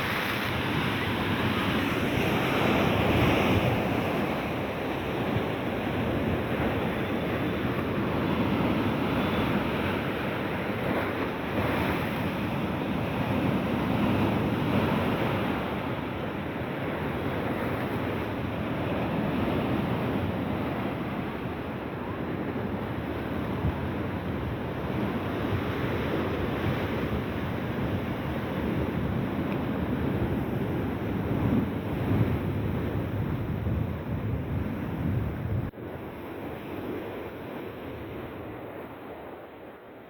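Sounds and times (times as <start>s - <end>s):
wind on microphone: 0.0s - 39.6s
sea waves washing ashore: 0.0s - 40.0s.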